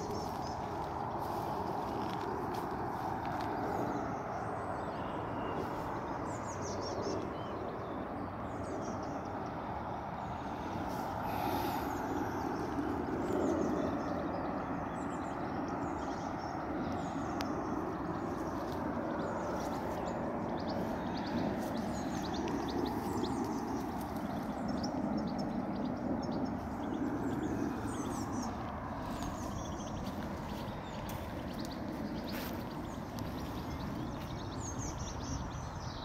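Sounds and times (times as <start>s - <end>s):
small birds chirping: 0.0s - 36.0s
steady background rumble: 0.0s - 36.0s.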